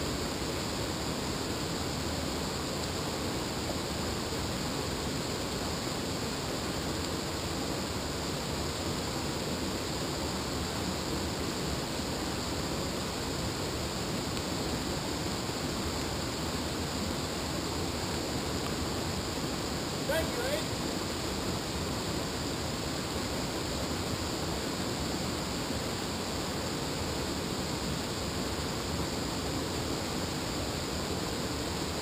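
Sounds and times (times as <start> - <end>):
river cascading over rocks: 0.0 - 32.0.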